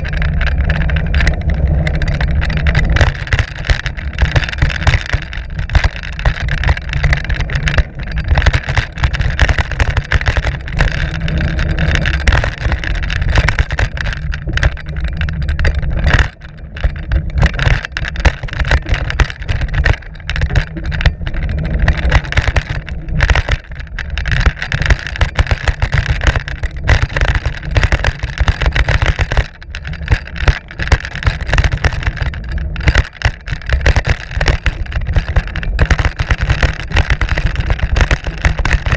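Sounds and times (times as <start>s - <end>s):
tyres rumbling over dirt: 0.0s - 33.0s
bike rattling and knocking: 0.0s - 38.9s.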